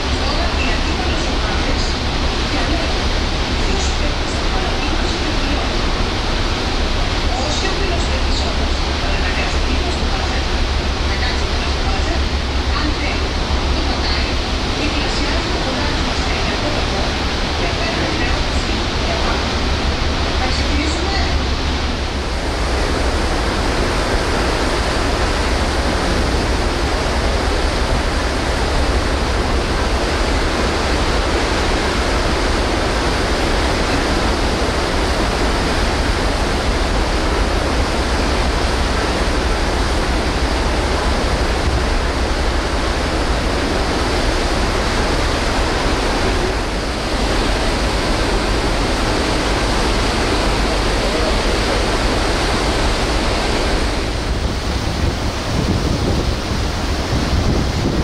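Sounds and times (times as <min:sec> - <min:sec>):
sea water rushing: 0:00.0 - 0:58.0
wind: 0:00.0 - 0:58.0.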